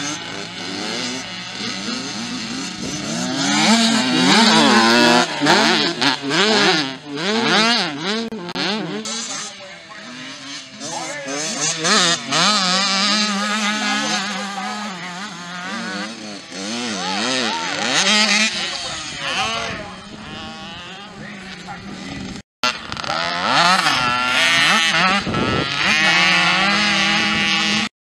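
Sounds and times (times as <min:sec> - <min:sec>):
motocross bikes revving: 0:00.0 - 0:27.9.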